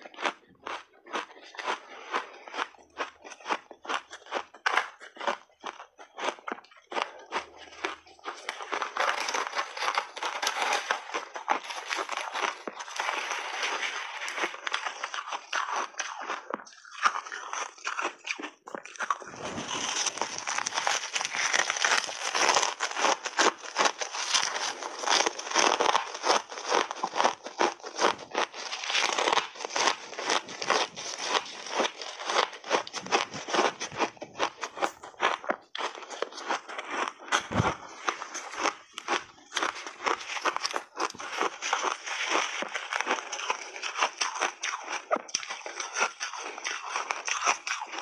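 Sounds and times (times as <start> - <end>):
crunching and chewing ice: 0.0 - 48.0.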